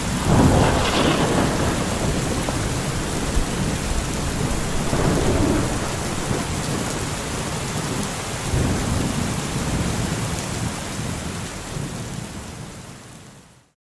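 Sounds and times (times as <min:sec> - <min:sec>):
low rolling thunder: 0:00.0 - 0:12.1
heavy rain: 0:00.0 - 0:13.8.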